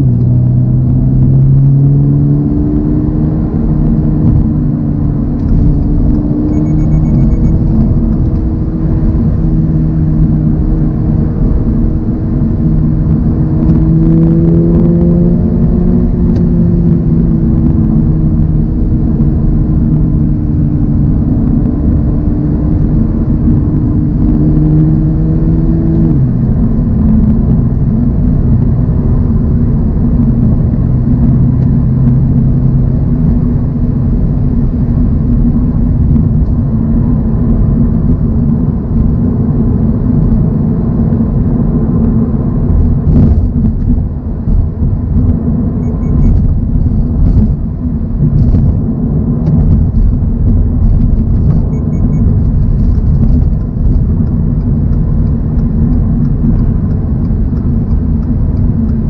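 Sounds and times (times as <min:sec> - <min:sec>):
car engine cruising: 0:00.0 - 0:59.0
road noise: 0:00.0 - 0:59.0.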